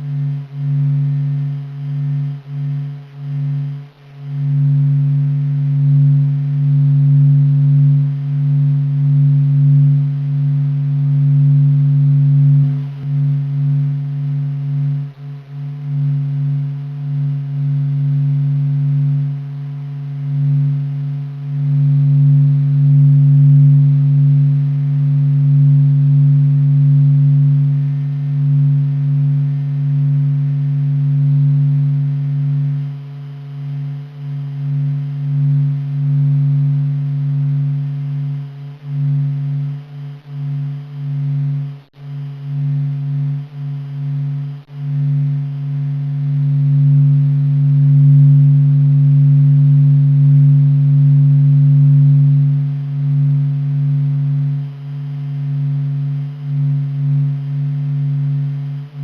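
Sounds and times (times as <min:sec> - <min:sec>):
deep droning hum: 0:00.0 - 0:59.0
faint higher tone: 0:00.0 - 0:59.0.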